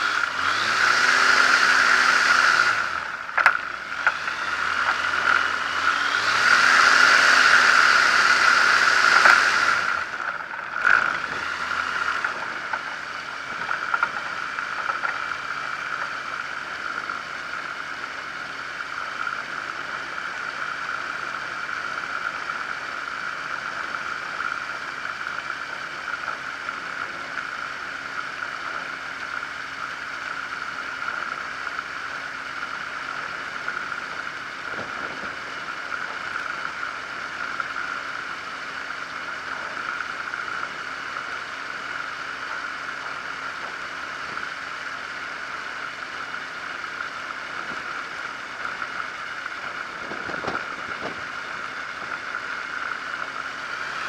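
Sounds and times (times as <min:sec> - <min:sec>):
light aircraft engine idling: 0:08.9 - 0:53.9.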